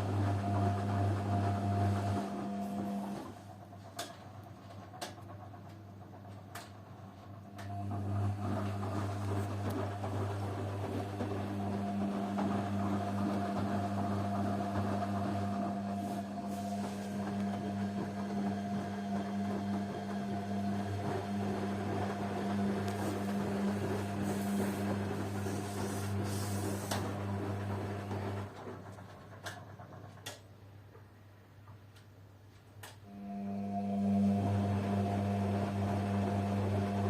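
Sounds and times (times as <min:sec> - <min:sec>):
washing machine motor humming: 0:00.0 - 0:30.7, 0:32.8 - 0:37.0.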